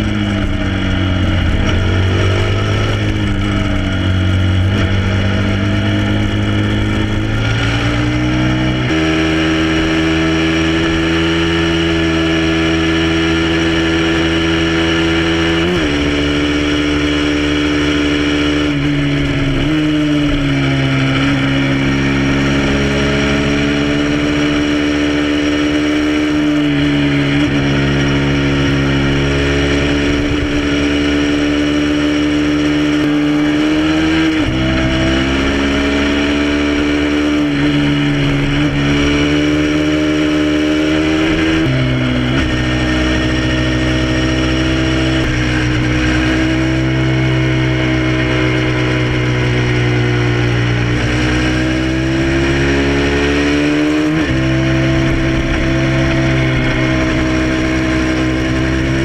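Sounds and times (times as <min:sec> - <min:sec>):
motorcycle engine shifting gear: 0:00.0 - 0:59.0.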